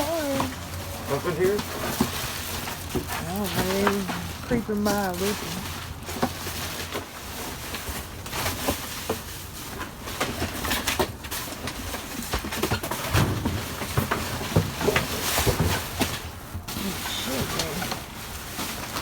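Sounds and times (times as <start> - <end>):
rummaging through trash: 0.0 - 19.0.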